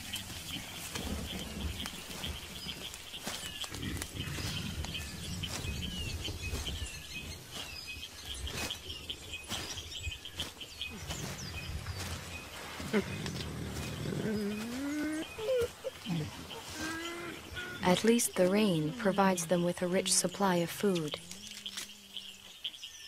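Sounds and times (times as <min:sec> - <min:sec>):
crackles and rustles: 0:00.0 - 0:20.4, 0:21.0 - 0:22.8.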